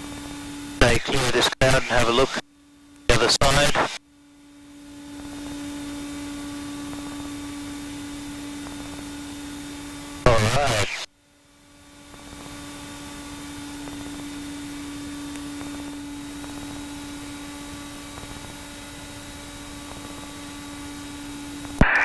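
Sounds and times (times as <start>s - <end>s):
aircraft engine and propeller drone: 0.0s - 21.8s.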